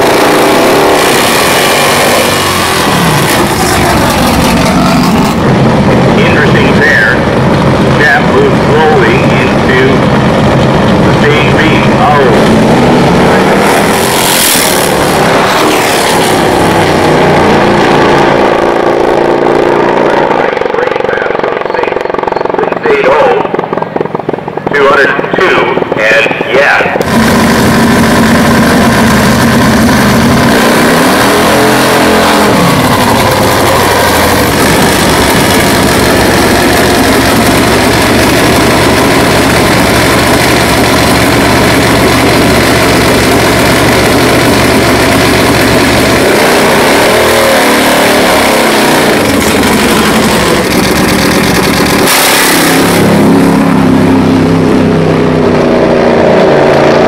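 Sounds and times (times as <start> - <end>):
drag bike engine revving: 0.0 - 24.4, 27.0 - 57.0.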